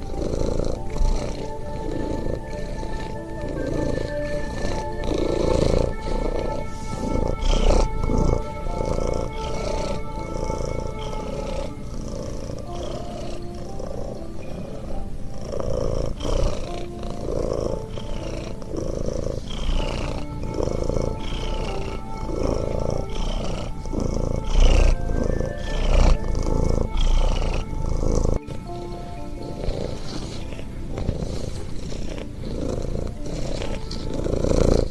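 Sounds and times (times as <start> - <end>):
background music with held tones: 0.0 - 34.9
cat purring: 0.0 - 34.9.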